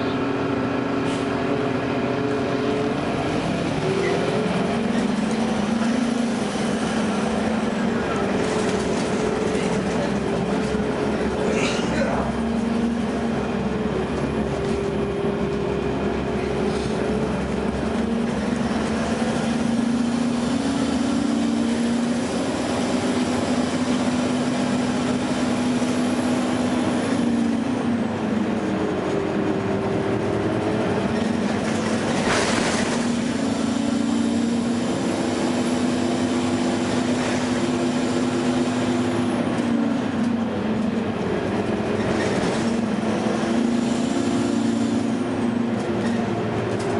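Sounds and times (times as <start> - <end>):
bus drivetrain drone and whine: 0.0 - 46.9.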